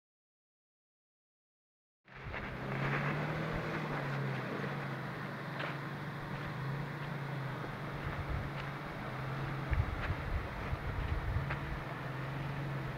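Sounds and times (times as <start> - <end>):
engine running at low revs: 2.1 - 12.9
tyres on loose ground: 2.1 - 12.9.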